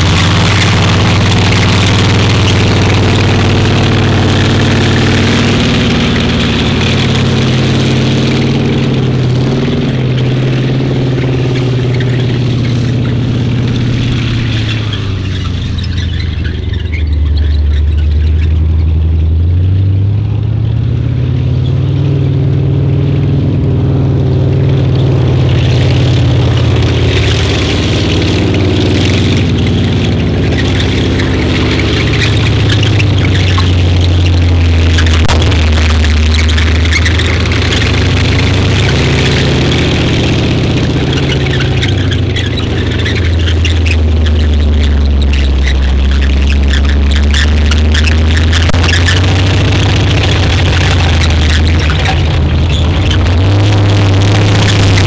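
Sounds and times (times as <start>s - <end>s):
tank engine running: 0.0s - 55.0s.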